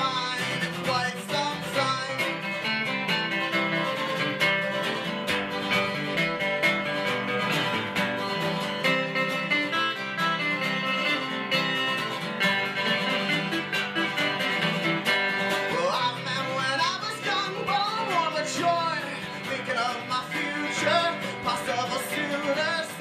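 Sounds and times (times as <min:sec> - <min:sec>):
acoustic guitars playing bluegrass: 0:00.0 - 0:23.0.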